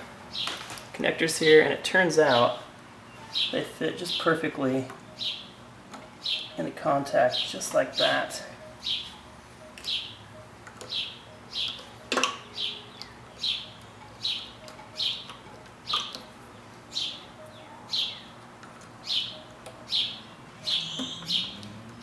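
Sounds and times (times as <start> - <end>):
bird chirping: 0.3 - 0.6, 2.2 - 22.0.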